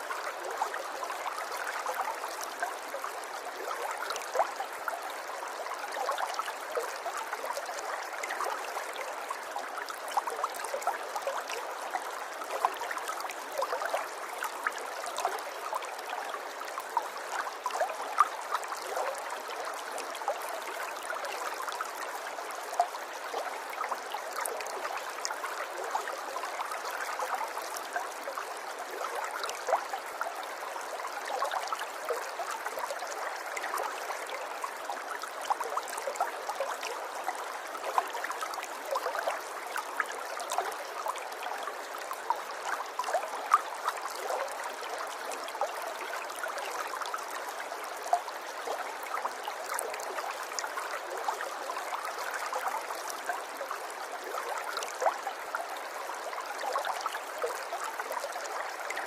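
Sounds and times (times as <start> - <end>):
river water flowing and burbling: 0.0 - 59.0.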